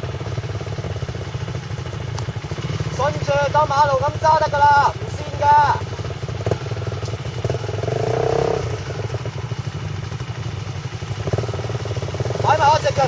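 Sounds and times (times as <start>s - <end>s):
dirt bike engine puttering: 0.0s - 13.0s.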